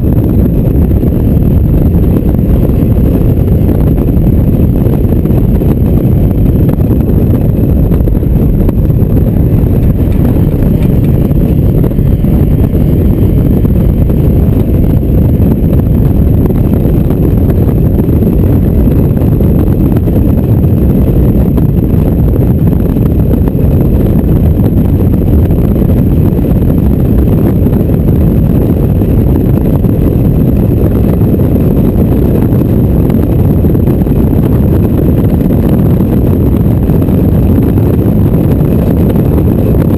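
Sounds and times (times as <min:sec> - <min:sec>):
car engine: 0:00.0 - 0:33.4
road noise: 0:00.0 - 0:39.9
wind buffeting microphone: 0:00.0 - 0:39.9.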